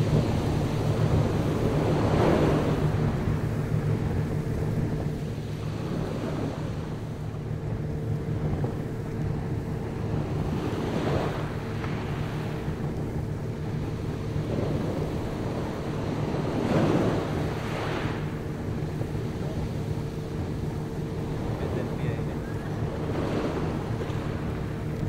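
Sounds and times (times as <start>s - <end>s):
boat engine humming: 0.0s - 25.0s
rushing water: 0.0s - 25.0s
wind on microphone: 0.0s - 25.0s.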